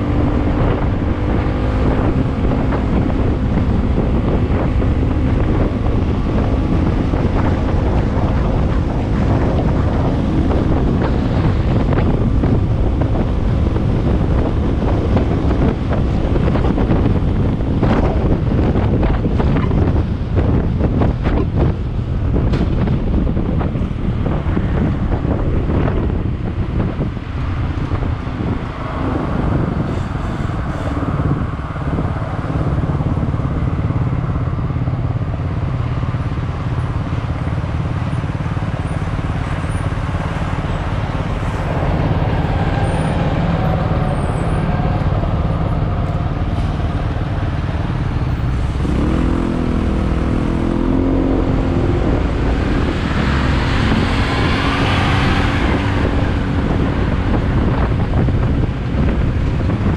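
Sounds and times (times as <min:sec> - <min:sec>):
motorcycle engine rumble: 0:00.0 - 0:59.9
wind rushing over microphone: 0:00.0 - 0:59.9.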